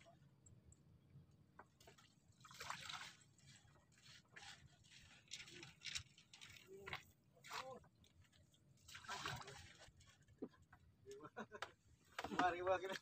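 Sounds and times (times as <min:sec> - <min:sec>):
water splashing and sloshing: 0:01.4 - 0:13.0.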